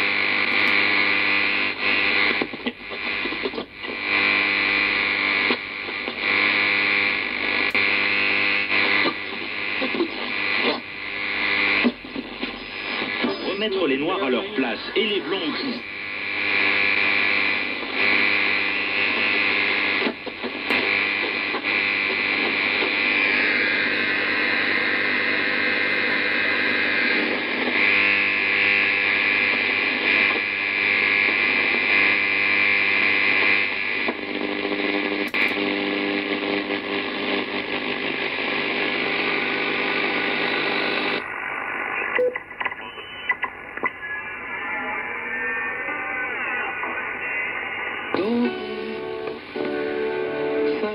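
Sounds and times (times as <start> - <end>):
radio band noise hiss: 0.0 - 50.9.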